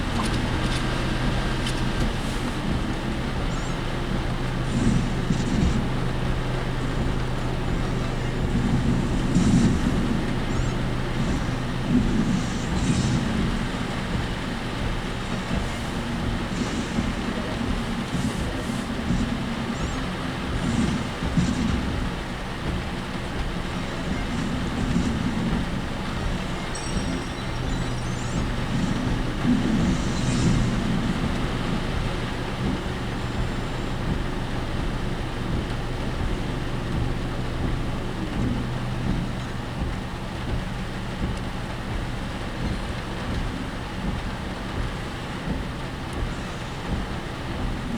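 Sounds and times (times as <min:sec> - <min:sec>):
vehicle engine and road drone: 0:00.0 - 0:47.9.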